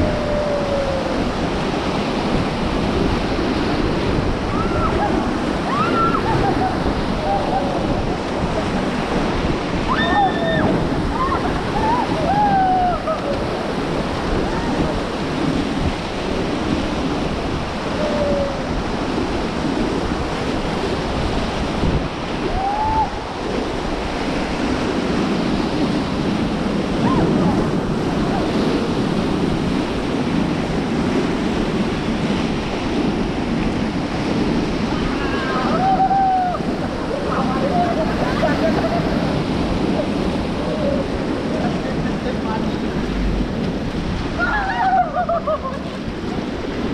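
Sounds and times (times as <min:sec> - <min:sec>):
river water rushing: 0:00.0 - 0:46.9
wind on microphone: 0:00.0 - 0:46.9.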